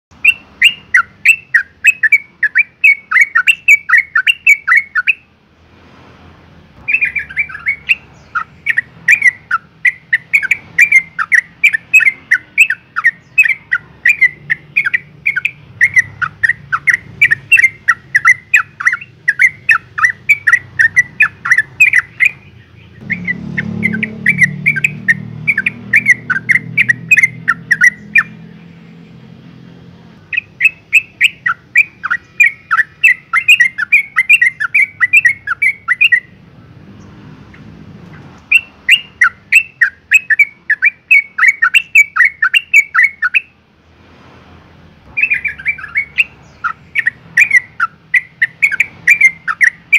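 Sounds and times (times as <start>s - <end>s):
bird chattering call: 0.2s - 5.3s, 6.8s - 28.8s, 30.2s - 36.4s, 38.4s - 43.6s, 45.1s - 49.9s.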